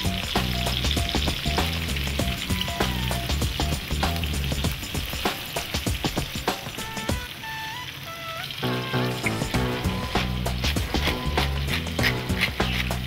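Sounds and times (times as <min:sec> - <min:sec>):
food sizzling in hot oil: 0:00.0 - 0:13.0
quiet backing music: 0:00.0 - 0:13.0.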